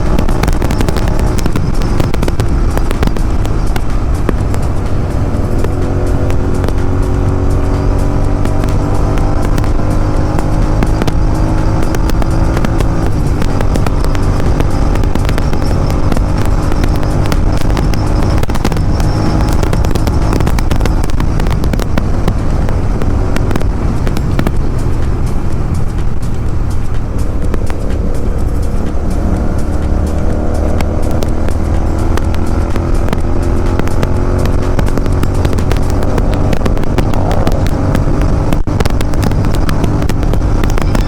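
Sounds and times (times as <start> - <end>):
background music: 0.0 - 41.0
motorcycle engine running: 0.0 - 41.0
sharp crackles: 0.0 - 41.0
wind noise: 0.0 - 41.0.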